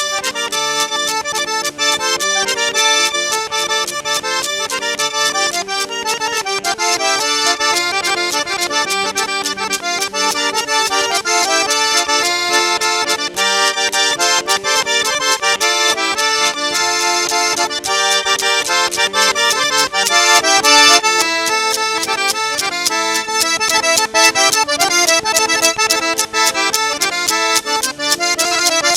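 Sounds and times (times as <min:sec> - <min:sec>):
accordion playing quick runs: 0:00.0 - 0:28.9.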